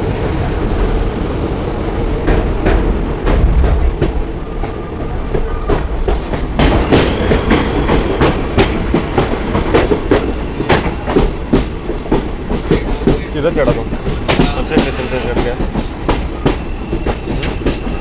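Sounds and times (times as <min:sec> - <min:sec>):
train rumbling on track: 0:00.0 - 0:18.0
wheels clacking over rail joints: 0:00.0 - 0:18.0.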